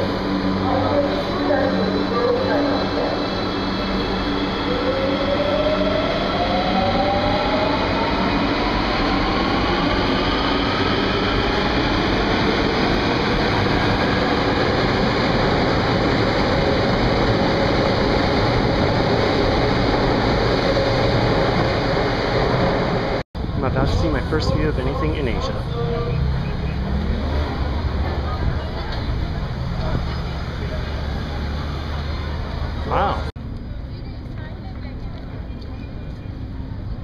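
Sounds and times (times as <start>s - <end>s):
rush of train cars passing: 0.0s - 33.3s.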